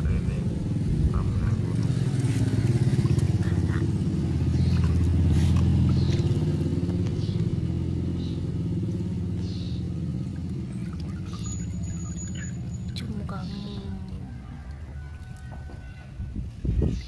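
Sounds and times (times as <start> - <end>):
vehicle engine passing by: 0.0 - 15.2
water splashing and dripping: 0.8 - 15.5.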